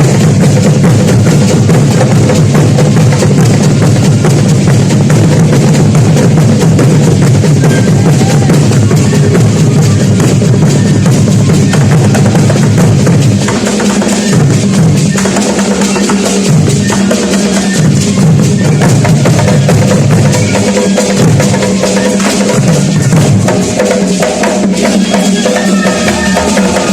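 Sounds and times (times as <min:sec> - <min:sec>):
big drums playing: 0:00.0 - 0:26.9.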